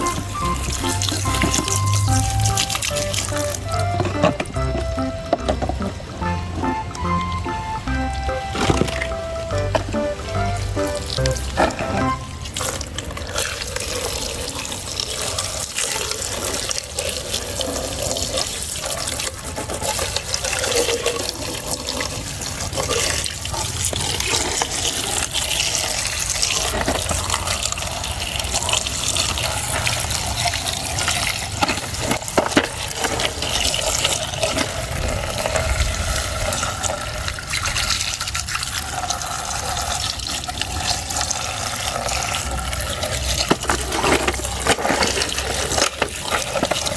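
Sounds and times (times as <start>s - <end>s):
tap water running: 0.0s - 46.9s.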